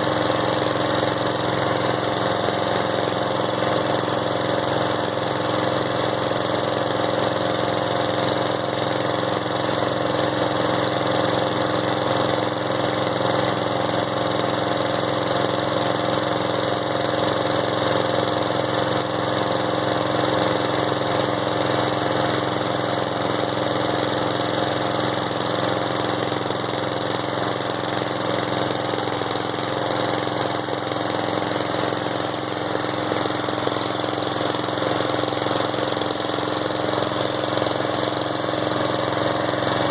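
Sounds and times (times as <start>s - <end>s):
riding lawnmower engine running: 0.0s - 39.9s.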